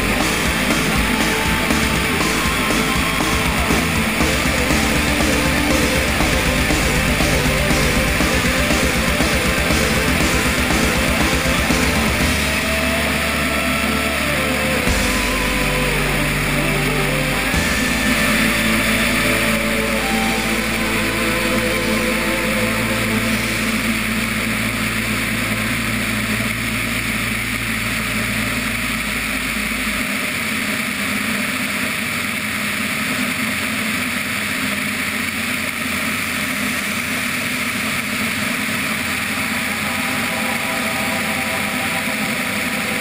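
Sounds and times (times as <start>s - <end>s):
low hum: 0.0s - 43.0s.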